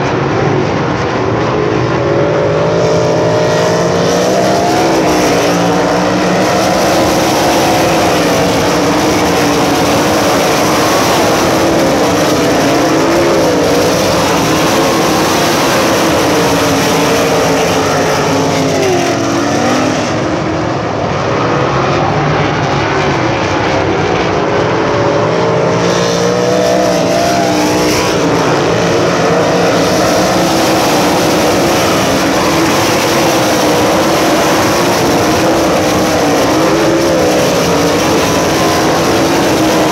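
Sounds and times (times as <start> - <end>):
race car engines passing: 0.0 - 39.9.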